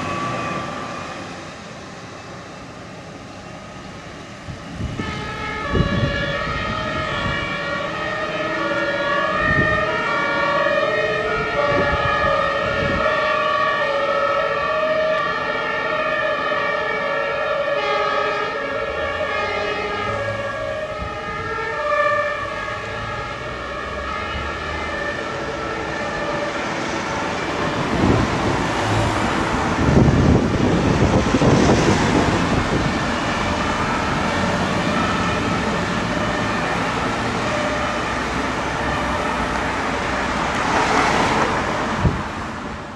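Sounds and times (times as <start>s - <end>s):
truck engine and tyre noise: 0.0s - 42.9s
two-tone emergency sirens: 0.0s - 42.9s.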